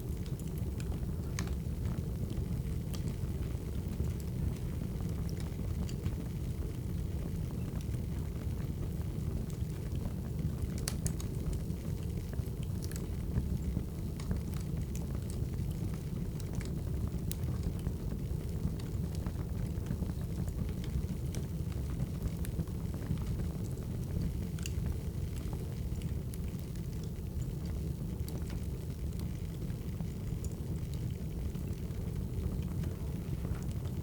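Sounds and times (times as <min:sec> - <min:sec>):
firewood crackling and popping: 0:00.0 - 0:34.0
wood fire rumbling: 0:00.0 - 0:34.0.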